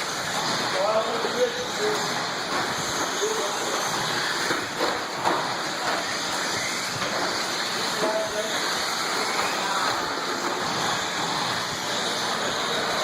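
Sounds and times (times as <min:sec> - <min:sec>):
radio-control trucks racing: 0:00.0 - 0:13.0.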